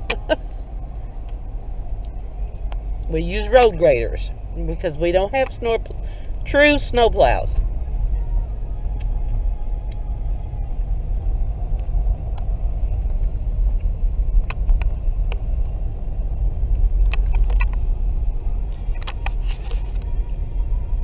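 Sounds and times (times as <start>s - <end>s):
car tyres and engine rumble: 0.0s - 21.0s.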